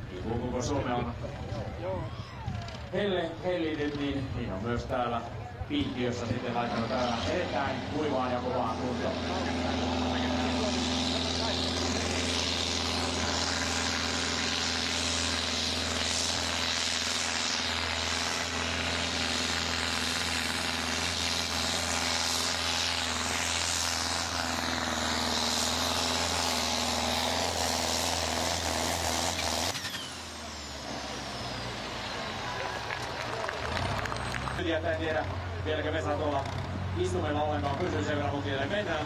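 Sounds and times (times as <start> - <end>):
tractor diesel engine under heavy load: 0.0 - 39.0.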